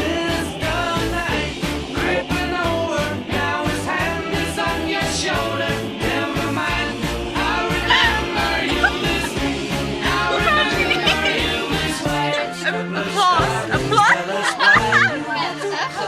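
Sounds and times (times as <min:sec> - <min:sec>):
pop-rock music: 0:00.0 - 0:16.0.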